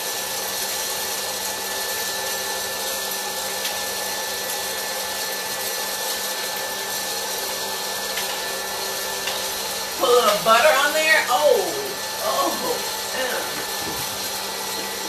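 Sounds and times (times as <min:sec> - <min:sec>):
popcorn popper blower humming: 0:00.0 - 0:15.0.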